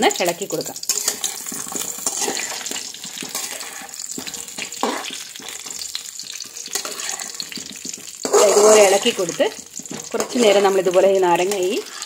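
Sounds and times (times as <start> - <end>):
lemons sizzling in hot oil: 0.0 - 12.0
metal spatula scraping a wok: 0.8 - 12.0.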